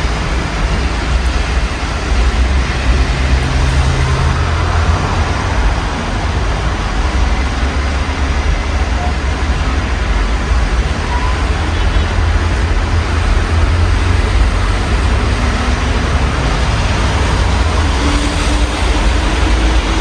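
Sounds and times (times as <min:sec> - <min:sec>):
vehicle passing: 0:00.0 - 0:08.8, 0:11.6 - 0:20.0
city traffic rumbling: 0:00.0 - 0:20.0
steady rain: 0:00.0 - 0:20.0.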